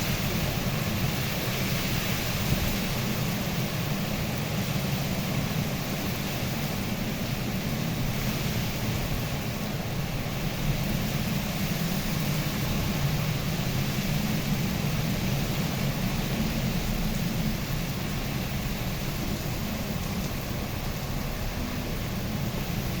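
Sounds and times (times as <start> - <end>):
heavy rain: 0.0 - 23.0
strong wind: 0.0 - 23.0.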